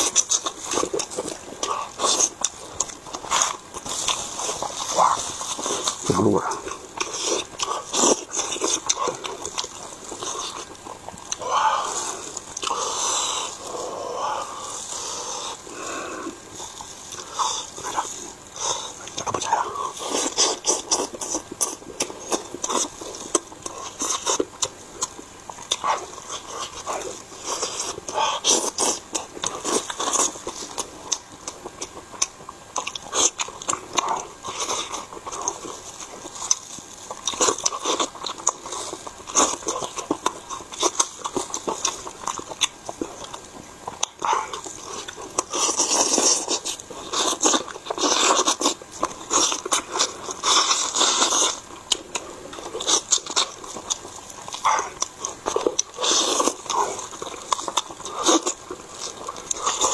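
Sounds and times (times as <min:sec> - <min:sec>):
chewing and biting meat: 0:00.0 - 0:59.9.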